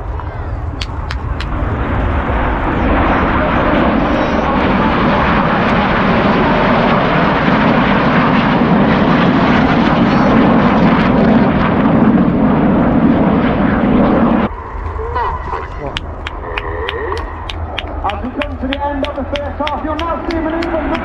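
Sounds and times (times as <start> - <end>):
jets flying over: 0.0 - 21.0.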